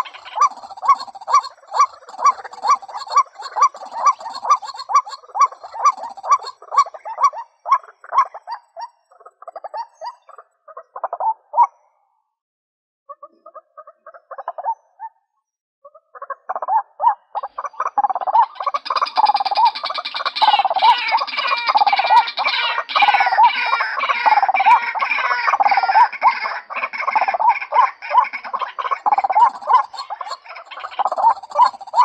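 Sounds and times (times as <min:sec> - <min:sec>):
waterhen calling: 0:00.0 - 0:11.7, 0:15.9 - 0:32.0.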